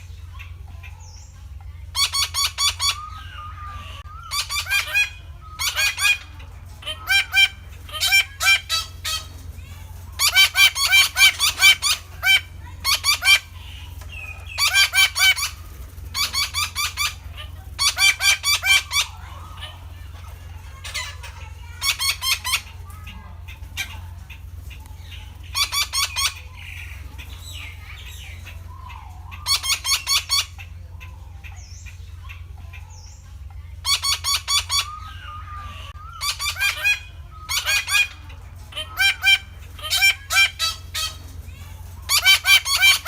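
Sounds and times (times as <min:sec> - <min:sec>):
parakeet squawking: 0:00.0 - 0:43.0.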